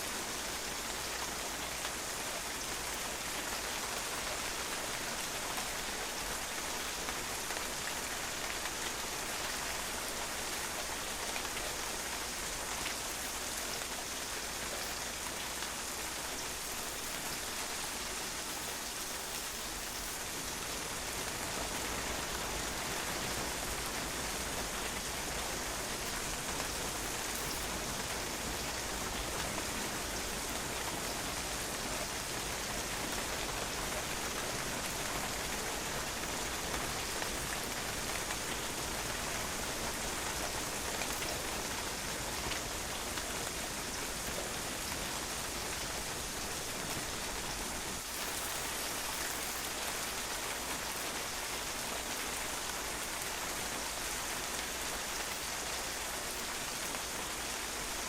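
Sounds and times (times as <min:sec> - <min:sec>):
rain pattering on a patio: 0:00.0 - 0:58.0.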